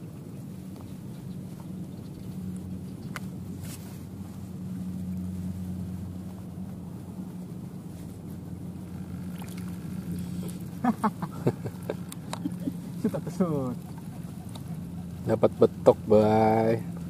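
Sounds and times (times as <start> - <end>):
engine running low hum: 0.0 - 17.0.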